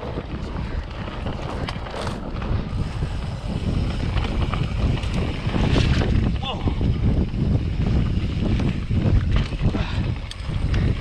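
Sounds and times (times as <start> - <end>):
bike clicks and rattles: 0.0 - 11.0
bike tyre rumble on dirt: 0.0 - 11.0
wind buffeting microphone: 0.0 - 11.0.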